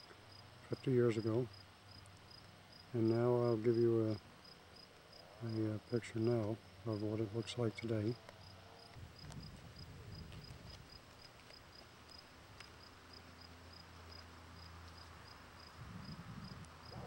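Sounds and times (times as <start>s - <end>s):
cricket chirping: 0.0s - 6.9s, 7.8s - 17.0s.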